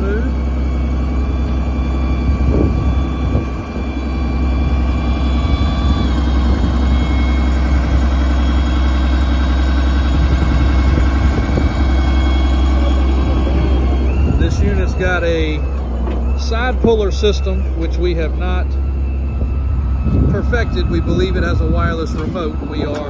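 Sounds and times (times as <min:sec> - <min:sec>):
diesel truck engine running: 0:00.0 - 0:23.0
hydraulic system whine: 0:00.0 - 0:23.0.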